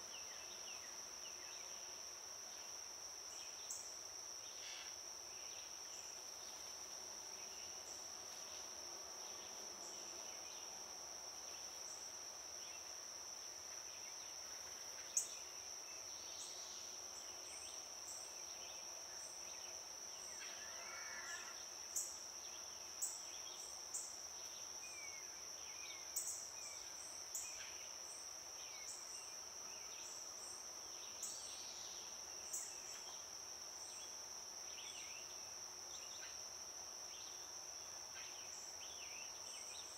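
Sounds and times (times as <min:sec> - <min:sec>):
high insect trill: 0:00.0 - 0:39.9.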